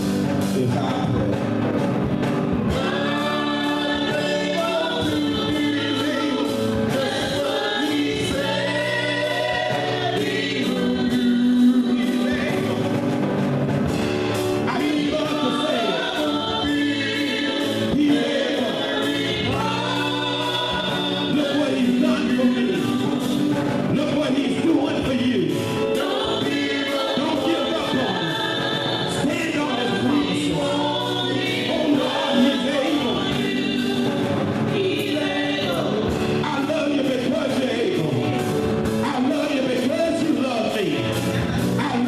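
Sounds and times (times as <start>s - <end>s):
gospel choir singing: 0.0s - 42.0s.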